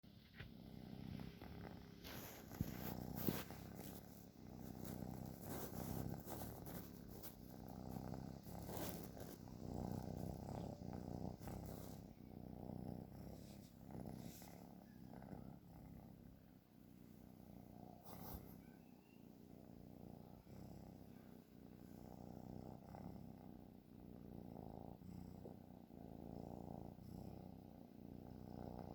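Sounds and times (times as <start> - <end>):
cat snoring: 0.0 - 28.9.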